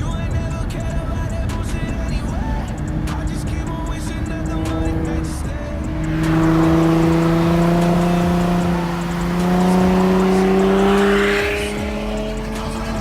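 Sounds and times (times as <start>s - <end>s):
car engine exhaust under load: 0.0s - 13.0s.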